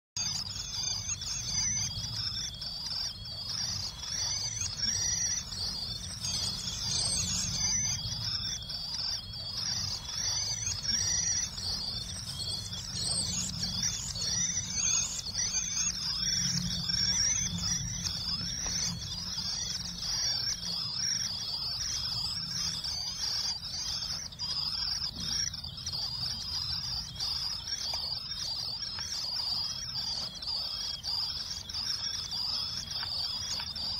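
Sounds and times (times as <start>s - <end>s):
nestlings peeping: 0.2s - 33.9s.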